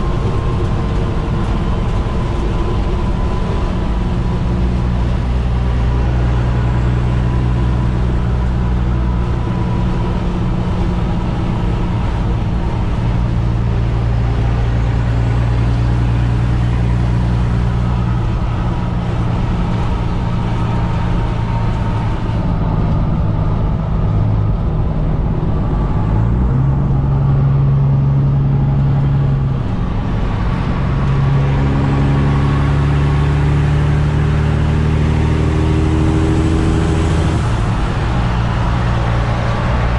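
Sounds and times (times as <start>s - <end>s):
diesel truck engine: 0.0s - 39.9s
road noise: 0.0s - 39.9s.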